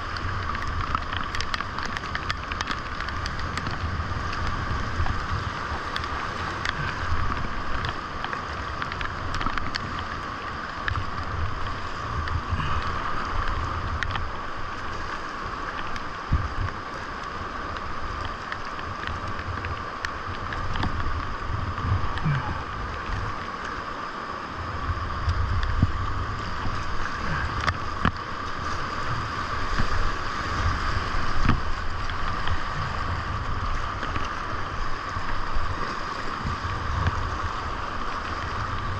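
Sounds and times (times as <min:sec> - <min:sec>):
creek rapids rushing: 0:00.0 - 0:38.9
paddle splashes: 0:00.0 - 0:38.9
water ticking on camera: 0:00.0 - 0:38.9
wind rumble on microphone: 0:00.0 - 0:38.9.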